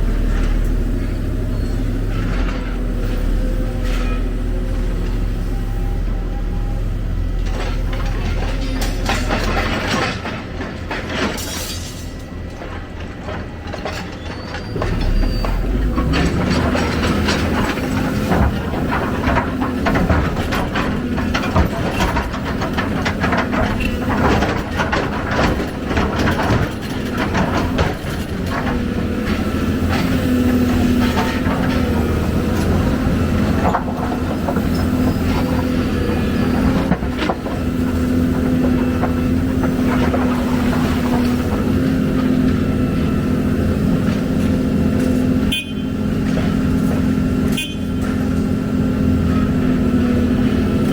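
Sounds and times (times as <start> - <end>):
excavator engine running: 0.0 - 11.5, 12.2 - 50.9
metal clanks and knocks: 7.4 - 48.6.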